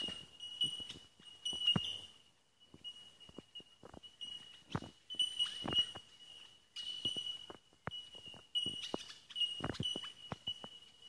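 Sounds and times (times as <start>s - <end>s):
bellbirds calling: 0.0s - 11.0s
high bell-like tink notes: 0.0s - 11.0s.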